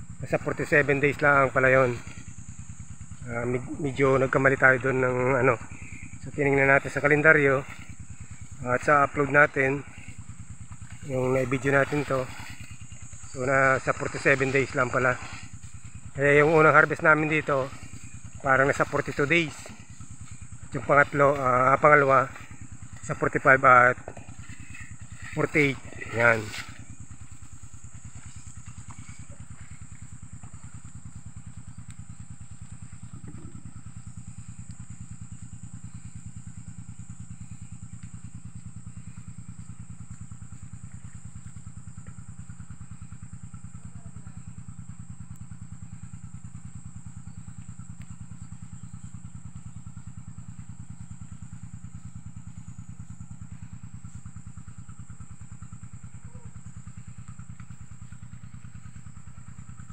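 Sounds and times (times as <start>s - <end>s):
small engine running steadily: 0.0s - 59.9s.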